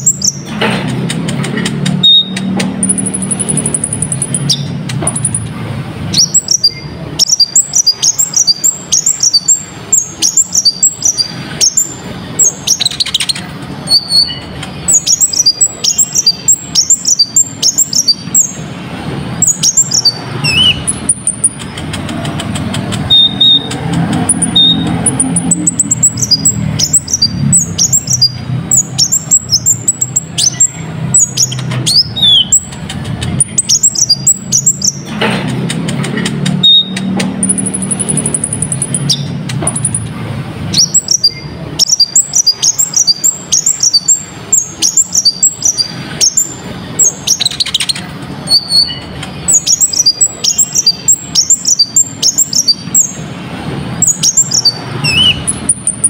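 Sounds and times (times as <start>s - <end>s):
songbird chirping: 0.0s - 5.5s, 6.1s - 18.7s, 19.4s - 40.1s, 40.7s - 53.2s.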